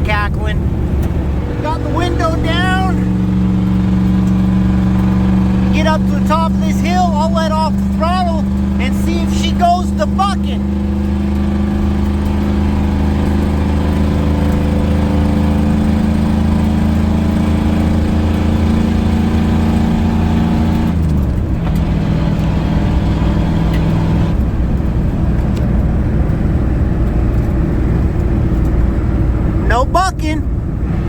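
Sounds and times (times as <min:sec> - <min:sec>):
diesel truck engine: 0:00.0 - 0:31.0.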